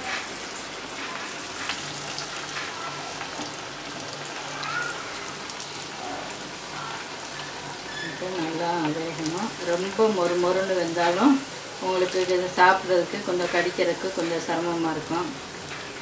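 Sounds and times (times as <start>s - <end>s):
dough sizzling in hot oil: 0.0s - 16.0s.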